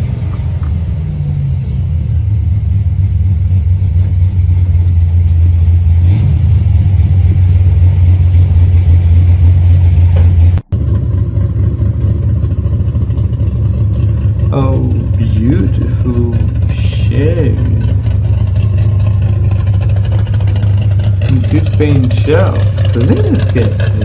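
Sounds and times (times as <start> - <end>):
car engine deep drone: 0.0 - 24.0
second car engine rumbling: 0.0 - 24.0.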